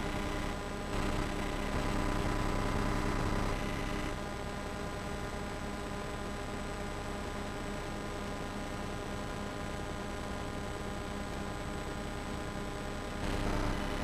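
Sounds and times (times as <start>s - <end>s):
electrical hum and buzz: 0.0s - 14.0s.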